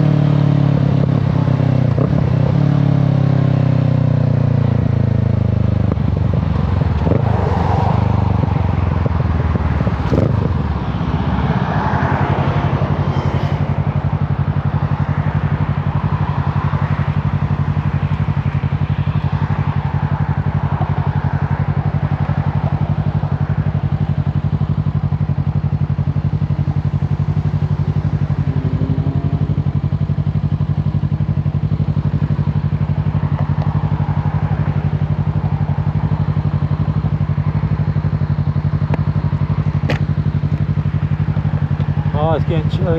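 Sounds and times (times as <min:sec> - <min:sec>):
motorcycle engine revs falling and idling: 0:00.0 - 0:42.9.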